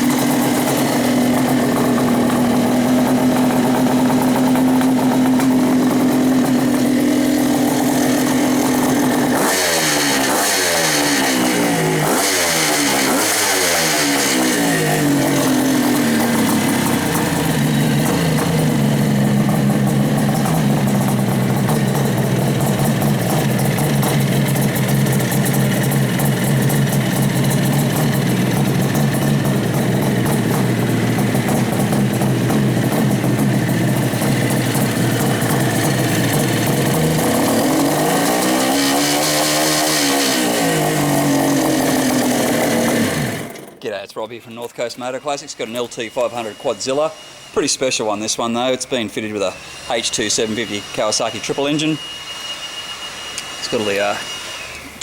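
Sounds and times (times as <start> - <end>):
two-stroke engine idling and blipping: 0.0 - 55.0.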